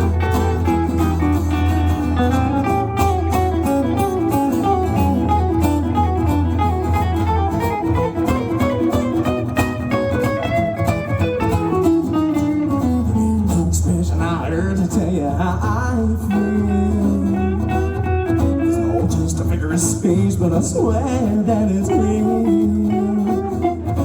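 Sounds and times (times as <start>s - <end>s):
guitar melodic run: 0.0s - 24.0s
strummed guitar chords: 0.0s - 24.0s.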